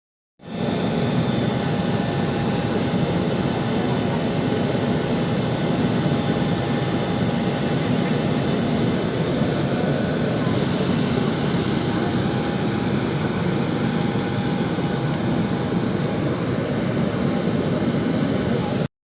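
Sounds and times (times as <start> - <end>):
jet aircraft rush: 0.4 - 18.9.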